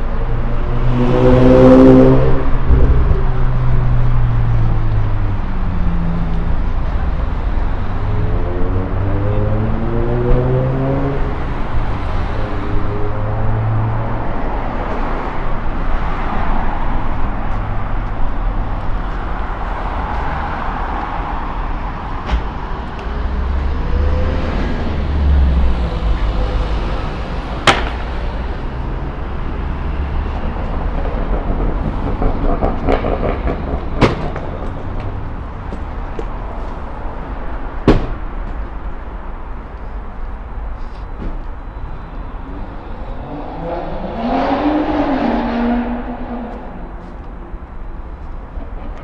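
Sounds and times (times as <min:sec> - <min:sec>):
vehicle rumbling past: 0:00.0 - 0:37.7, 0:42.4 - 0:49.0
traffic noise: 0:00.0 - 0:49.0.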